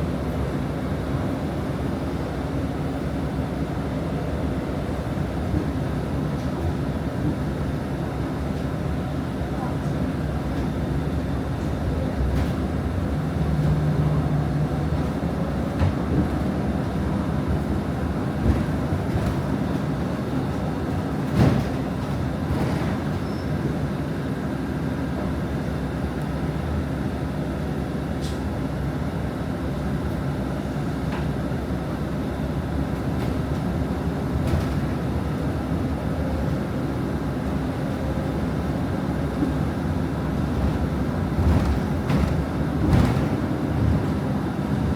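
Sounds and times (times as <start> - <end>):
bus engine and road rumble: 0.0 - 44.9.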